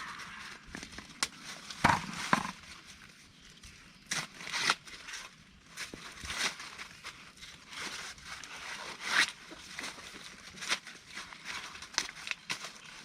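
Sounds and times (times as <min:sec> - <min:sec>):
dry corn plants rustling: 0:00.0 - 0:13.0.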